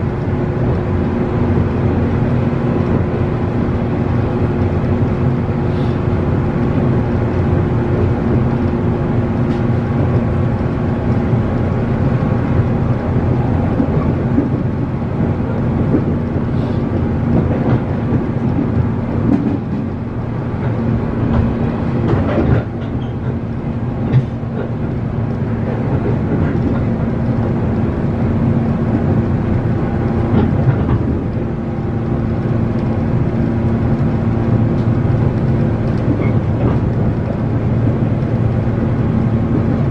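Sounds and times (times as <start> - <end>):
train traction motor hum: 0.0 - 39.9
wheels rumbling on rail: 0.0 - 39.9.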